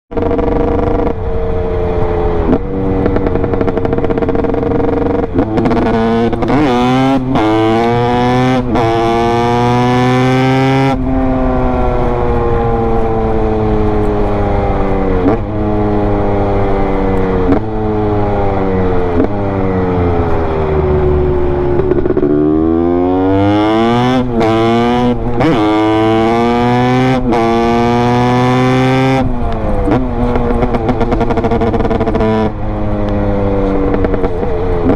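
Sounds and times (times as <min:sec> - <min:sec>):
two-stroke engine accelerating: 0:00.1 - 0:34.9.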